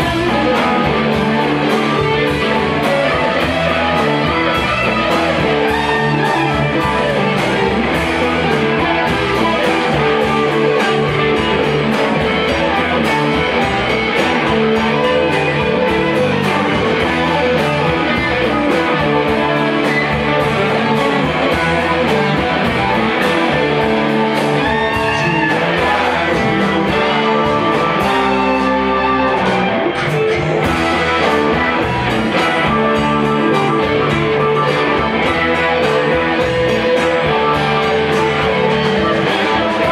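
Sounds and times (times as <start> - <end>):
live rock band: 0.0 - 39.9.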